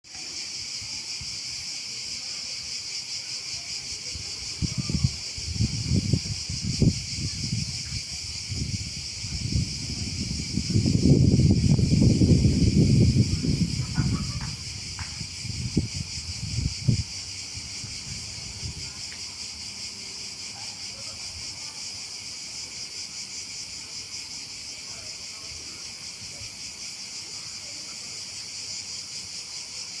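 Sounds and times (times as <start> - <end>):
insects buzzing: 0.1 - 30.0.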